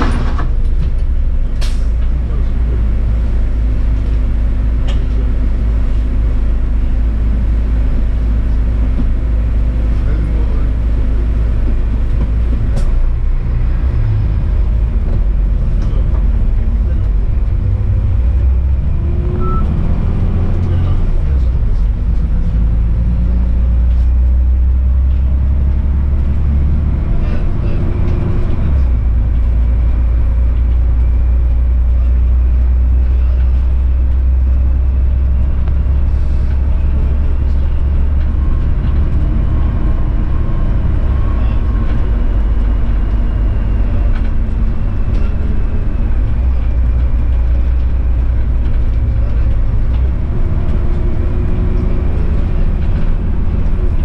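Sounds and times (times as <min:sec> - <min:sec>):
bus engine drone: 0:00.0 - 0:54.0
tyre and road noise: 0:00.0 - 0:54.0.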